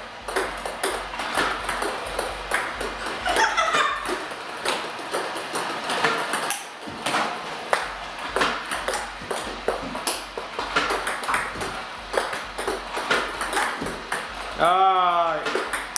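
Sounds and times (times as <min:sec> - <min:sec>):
ping-pong balls clicking: 0:00.0 - 0:15.9.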